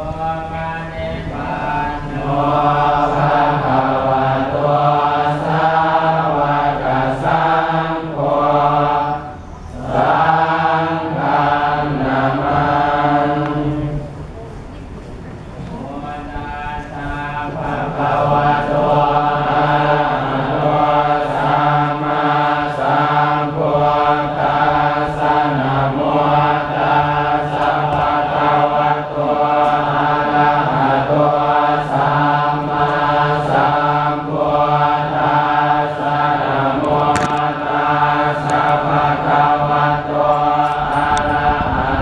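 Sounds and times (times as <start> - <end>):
monks chanting in unison: 0.0 - 14.5, 15.6 - 42.0.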